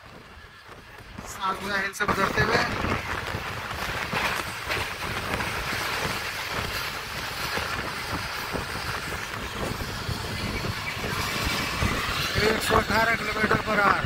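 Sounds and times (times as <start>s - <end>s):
train running at full speed: 0.0s - 14.0s.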